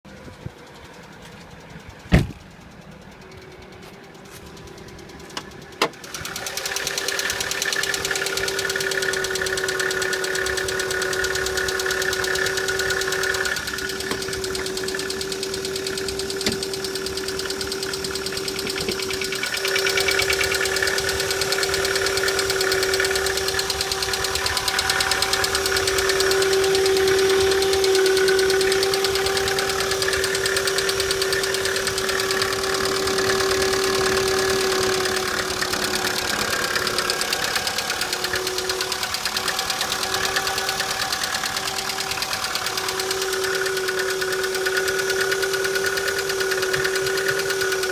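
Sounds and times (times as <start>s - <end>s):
car engine starting and running: 0.0s - 47.9s.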